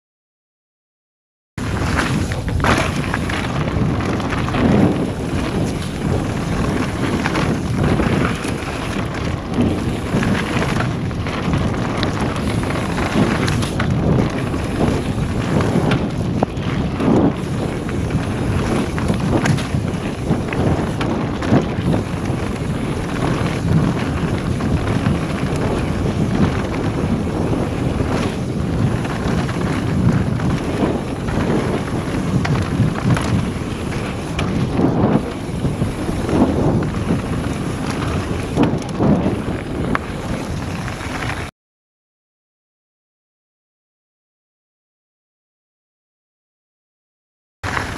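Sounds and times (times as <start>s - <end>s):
bike knocks and rattles: 1.6s - 41.5s
rumble of knobbly tyres: 1.6s - 41.5s, 47.6s - 47.9s
wind buffeting microphone: 1.6s - 41.5s.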